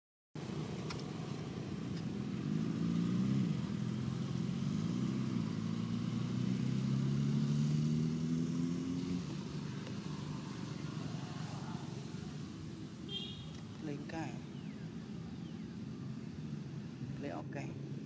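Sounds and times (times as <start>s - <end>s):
vehicle engine running: 0.4s - 18.0s.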